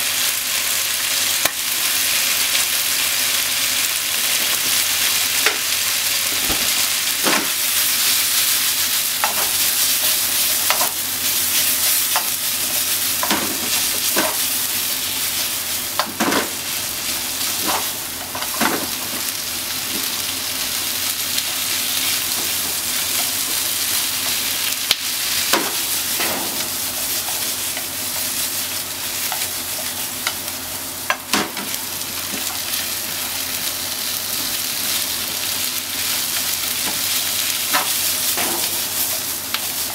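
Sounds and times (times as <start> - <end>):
meat and onions sizzling in a pan: 0.0 - 39.9.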